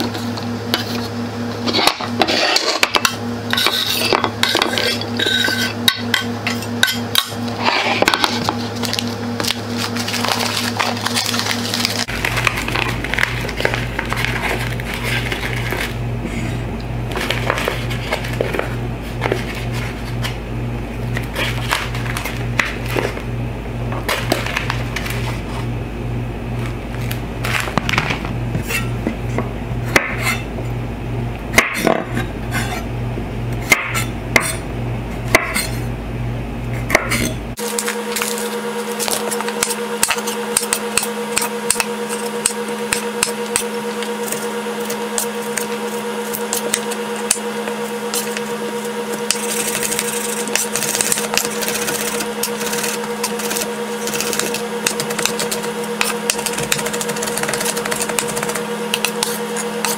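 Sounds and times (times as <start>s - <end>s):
steady background drone: 0.0s - 59.9s.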